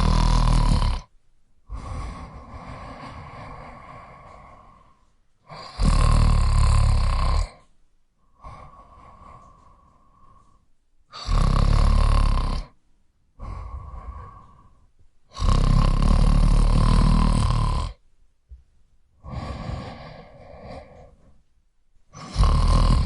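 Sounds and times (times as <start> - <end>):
person snoring: 0.0 - 1.1, 1.7 - 12.8, 13.4 - 18.0, 19.2 - 21.4, 22.1 - 23.0.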